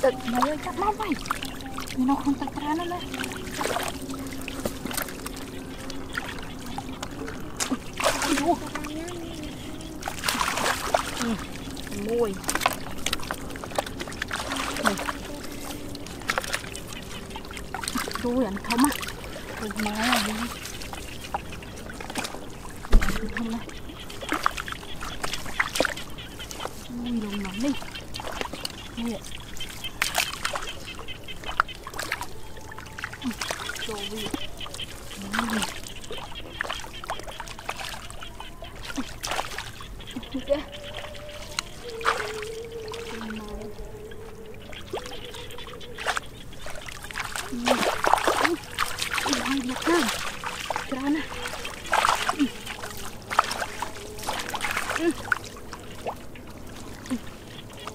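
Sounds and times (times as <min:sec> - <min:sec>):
muddy water splashing: 0:00.0 - 0:57.9.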